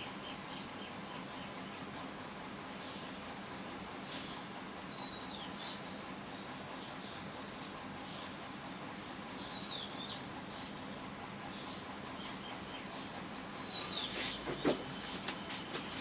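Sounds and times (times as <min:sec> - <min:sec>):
small birds chirping: 0:00.0 - 0:02.0, 0:02.8 - 0:16.0.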